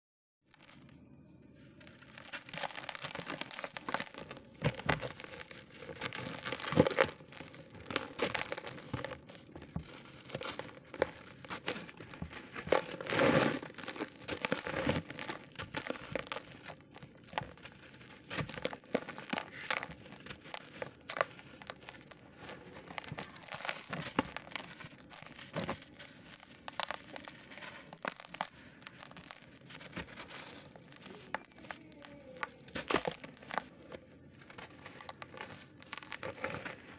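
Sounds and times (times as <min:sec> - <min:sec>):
crumbs falling into plastic tub: 0:00.5 - 0:00.9, 0:01.8 - 0:36.9
hands crumbling dry powder block: 0:00.5 - 0:01.0, 0:01.7 - 0:36.9.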